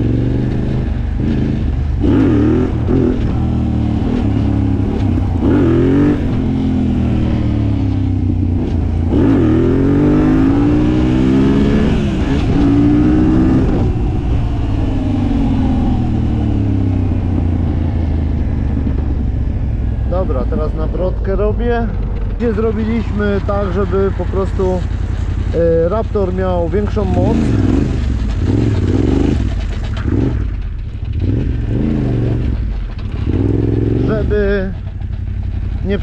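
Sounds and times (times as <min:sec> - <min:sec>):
quad engine revving: 0:00.0 - 0:24.9, 0:25.5 - 0:34.8.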